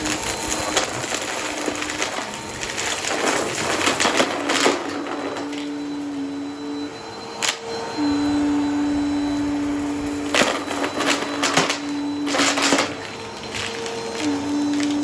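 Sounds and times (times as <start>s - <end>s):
vacuum cleaner motor whining: 0.0s - 15.0s.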